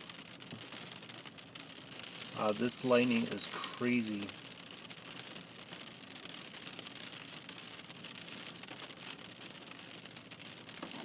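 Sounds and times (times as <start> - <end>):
rain pattering on a car: 0.0 - 11.0.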